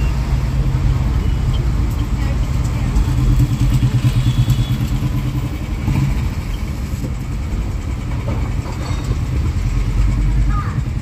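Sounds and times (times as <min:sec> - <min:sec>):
low traffic rumble: 0:00.0 - 0:11.0
motorcycle engine running: 0:01.8 - 0:11.0.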